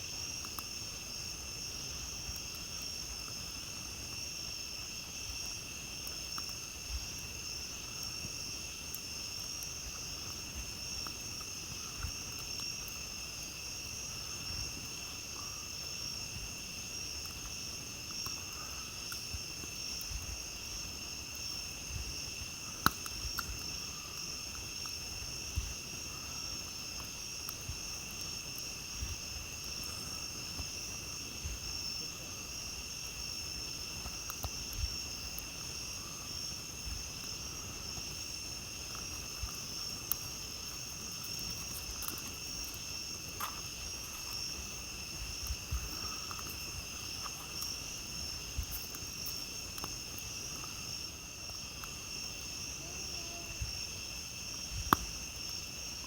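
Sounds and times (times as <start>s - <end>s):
campfire popping and crackling: 0.0s - 56.0s
night insects chorus: 0.0s - 56.0s.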